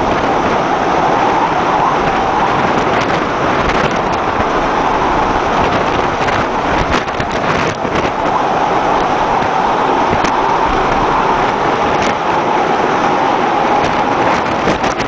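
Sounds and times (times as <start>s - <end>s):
waves breaking over ship bow: 0.0s - 15.0s
wind buffeting microphone: 0.0s - 15.0s.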